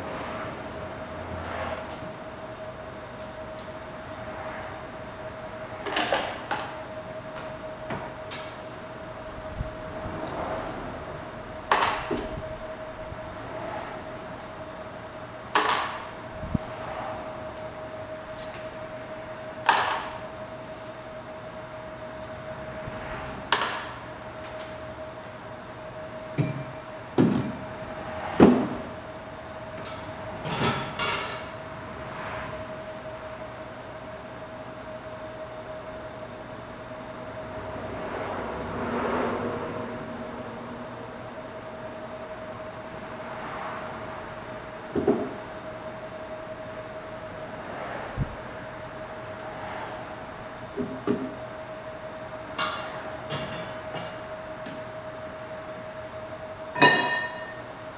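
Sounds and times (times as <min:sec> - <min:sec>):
steady high-pitched hum: 0:00.0 - 0:57.9.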